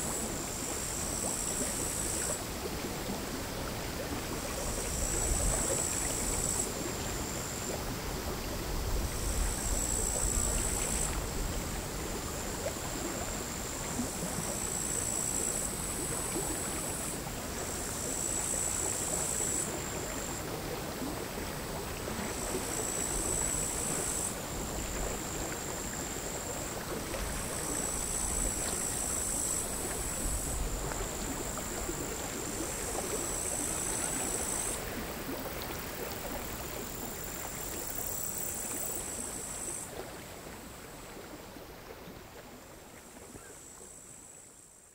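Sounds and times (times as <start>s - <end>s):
bush-crickets buzzing: 0.0s - 2.7s, 4.3s - 39.9s, 43.4s - 44.9s
small waves lapping at shore: 0.0s - 44.8s.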